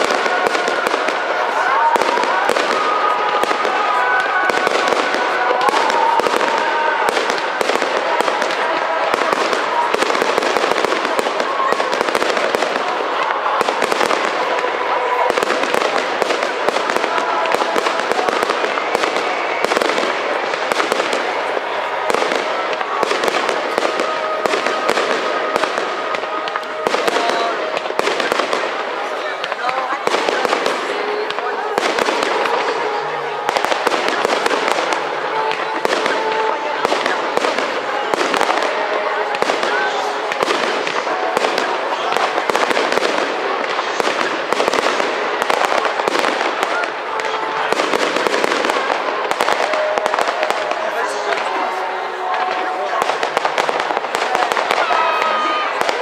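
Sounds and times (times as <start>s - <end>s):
firework crackle: 0.0s - 56.0s.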